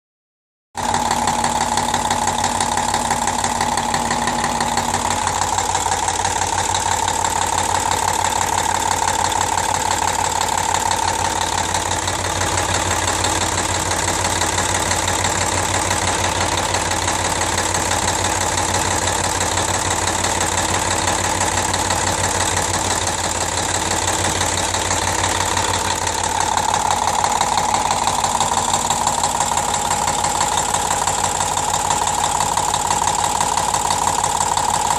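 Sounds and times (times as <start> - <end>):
diesel engine idling with a knock: 0.8 - 34.9.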